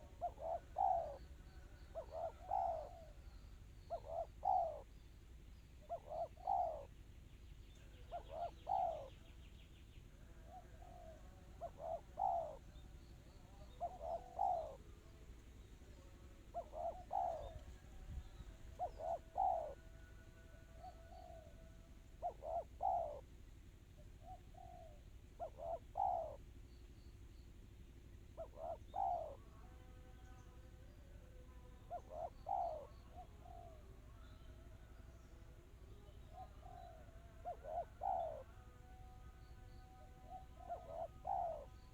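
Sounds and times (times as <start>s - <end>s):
dove cooing: 0.0s - 5.1s, 5.7s - 7.0s, 7.7s - 26.6s, 28.2s - 41.9s.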